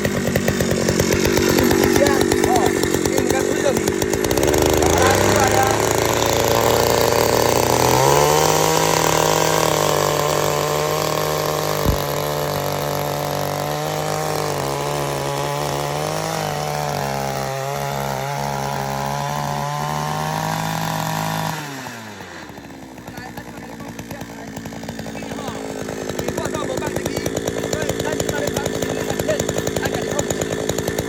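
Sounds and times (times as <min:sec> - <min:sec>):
tiller engine running: 0:00.0 - 0:31.0.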